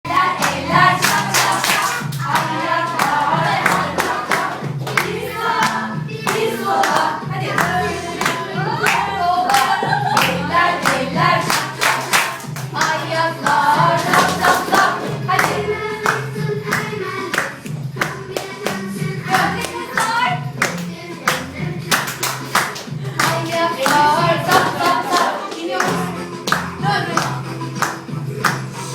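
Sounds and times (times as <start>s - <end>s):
sung vocals: 0.1s - 22.2s, 23.0s - 28.9s
children's disco dance song: 0.1s - 28.9s
hand claps: 0.4s - 28.8s.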